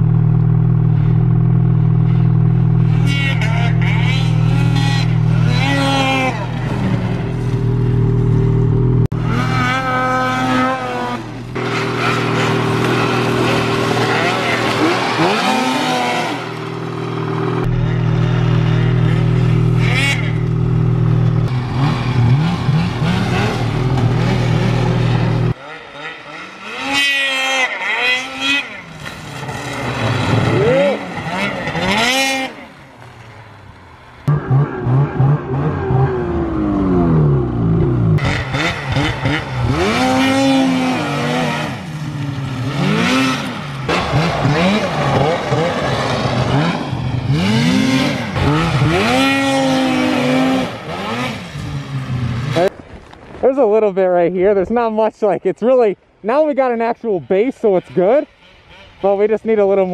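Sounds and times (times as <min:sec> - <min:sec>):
snowmobile engine revving: 0:00.0 - 0:33.1, 0:34.2 - 0:52.7, 0:54.6 - 0:59.9.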